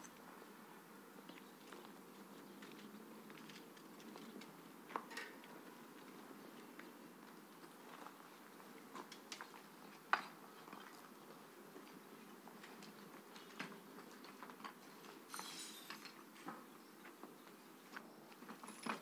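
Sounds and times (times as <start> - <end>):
rustle: 0.0 - 19.0.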